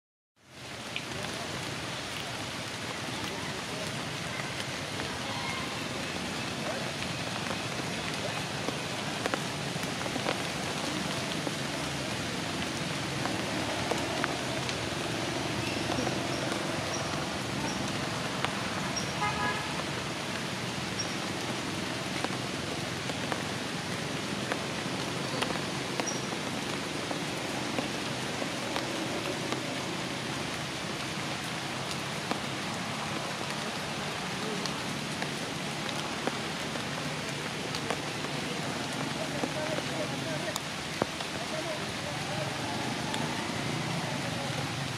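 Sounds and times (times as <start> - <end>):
hiss of outdoor ambience: 0.4 - 44.9.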